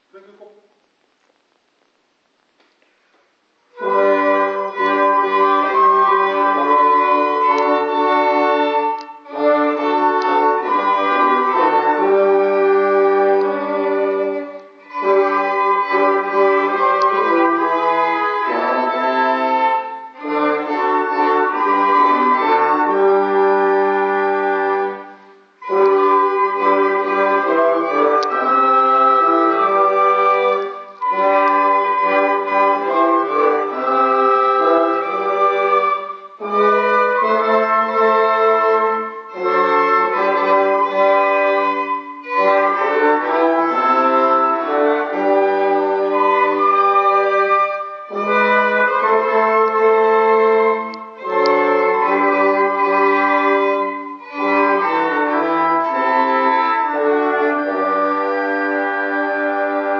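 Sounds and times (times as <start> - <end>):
small ensemble playing a hymn: 2.4 - 59.9.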